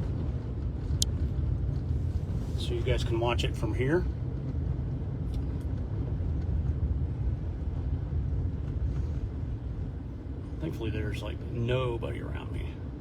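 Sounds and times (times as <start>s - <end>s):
car driving on snow: 0.0s - 13.0s.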